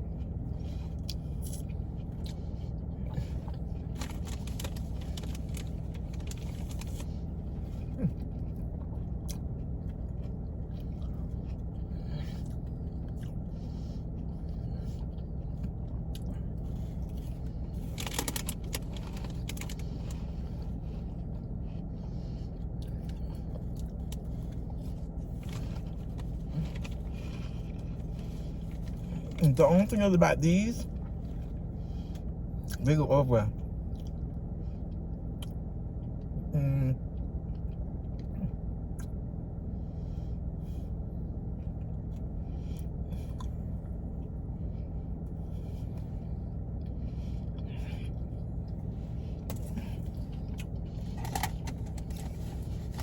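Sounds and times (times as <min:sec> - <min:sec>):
person chewing food: 0:00.0 - 0:29.4, 0:33.7 - 0:36.4, 0:40.4 - 0:53.0
low hum: 0:00.0 - 0:53.0.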